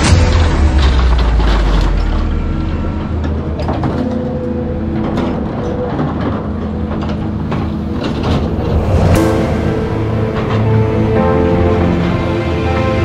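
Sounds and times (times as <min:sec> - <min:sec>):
excavator engine and hydraulics: 0:00.0 - 0:13.0.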